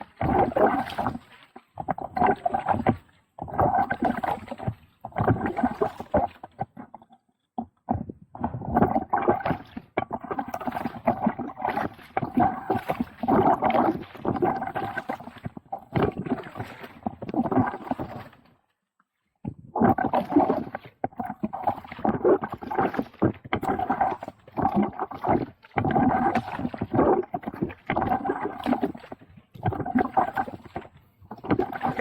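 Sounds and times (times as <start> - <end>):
paddle splashing water: 0.0 - 7.2, 7.9 - 32.0.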